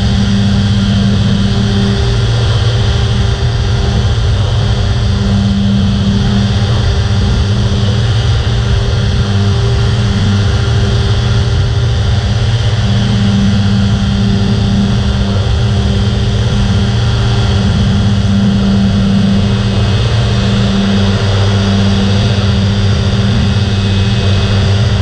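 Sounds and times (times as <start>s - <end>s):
two-stroke aircraft engine running: 0.0s - 25.0s.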